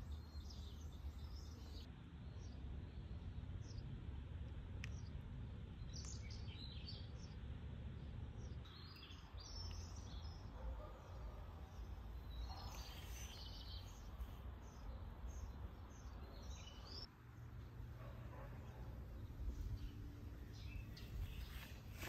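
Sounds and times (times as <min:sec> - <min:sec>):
small birds chirping: 0:00.0 - 0:03.9, 0:04.8 - 0:05.2, 0:05.8 - 0:22.0.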